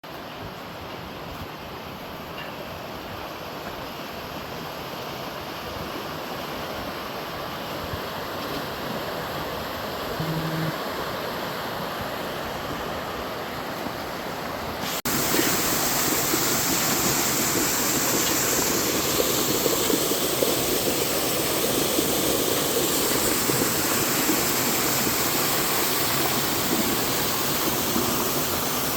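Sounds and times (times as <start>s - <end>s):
stream rushing over rocks: 0.1s - 28.9s.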